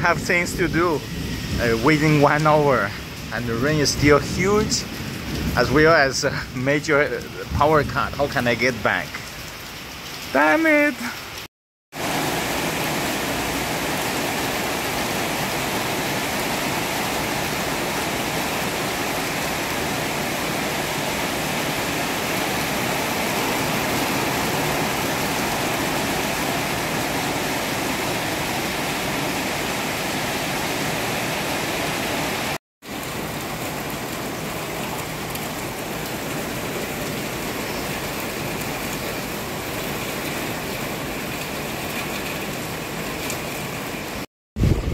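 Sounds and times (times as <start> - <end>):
heavy rain on corrugated roofs: 0.0 - 44.9.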